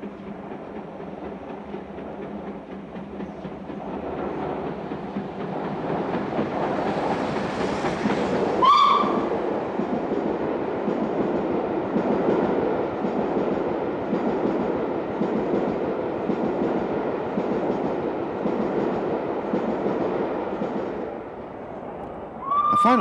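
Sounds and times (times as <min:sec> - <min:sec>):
train coaches rumbling past: 0:00.0 - 0:23.0.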